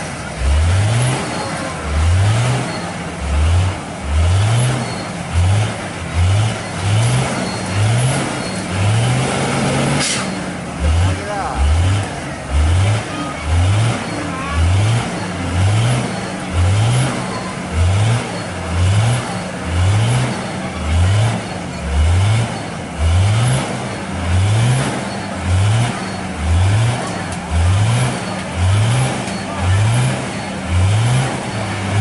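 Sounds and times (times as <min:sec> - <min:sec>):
truck engine throbbing: 0:00.0 - 0:32.0.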